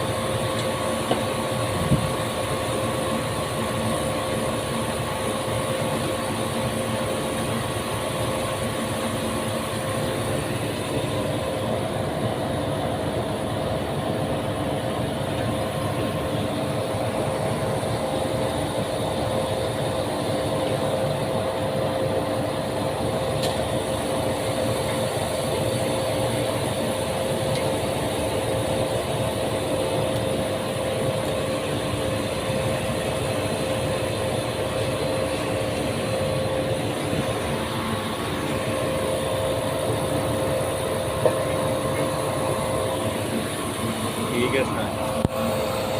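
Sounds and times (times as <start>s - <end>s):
motor-driven machine humming: 0.0s - 45.9s.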